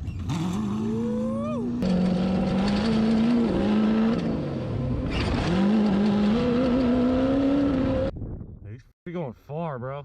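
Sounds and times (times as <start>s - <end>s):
off-road vehicle engine running hard: 0.0s - 8.1s.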